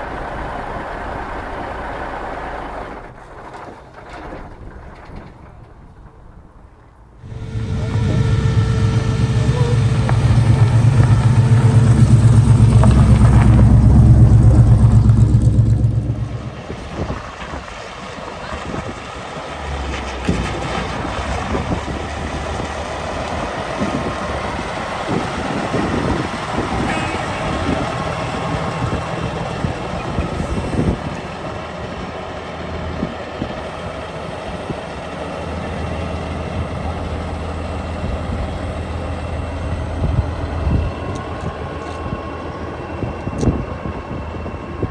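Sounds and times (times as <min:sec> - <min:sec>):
background engine rumble: 0:00.0 - 0:44.9
car engine running loud: 0:07.2 - 0:44.9.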